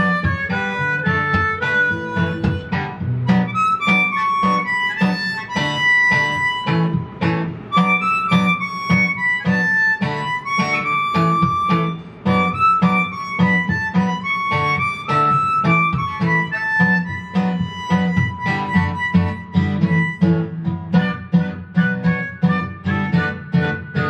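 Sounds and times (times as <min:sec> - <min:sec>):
harmonica melody: 0:00.0 - 0:24.0
strummed acoustic guitar: 0:00.0 - 0:24.0.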